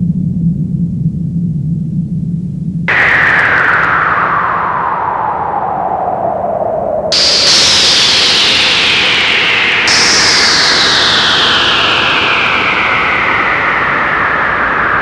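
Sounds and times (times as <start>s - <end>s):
synthesizer noise sweep: 2.9s - 15.0s.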